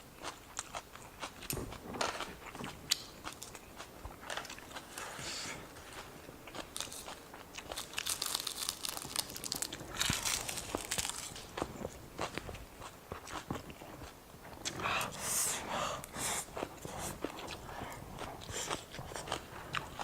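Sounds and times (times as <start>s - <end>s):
person chewing crunchy food: 0.2s - 15.2s, 16.0s - 20.0s.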